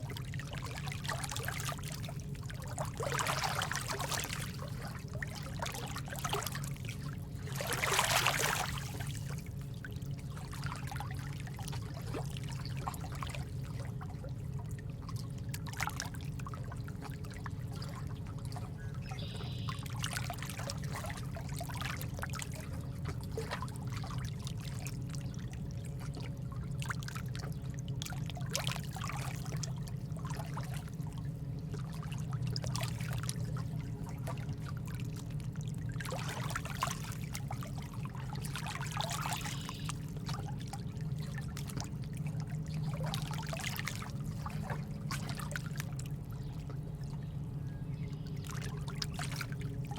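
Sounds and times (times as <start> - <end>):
low even rumble: 0.0 - 49.9.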